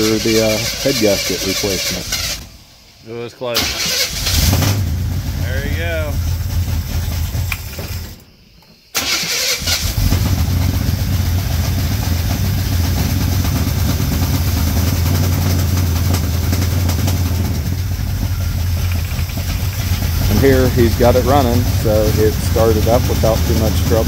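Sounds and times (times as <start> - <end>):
car engine running: 0.0 - 2.7, 4.1 - 8.2, 9.8 - 24.0.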